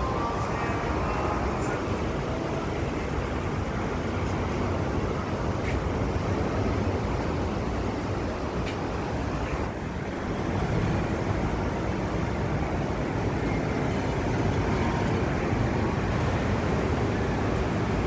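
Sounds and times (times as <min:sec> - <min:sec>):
gusts buffeting microphone: 0:00.0 - 0:18.0.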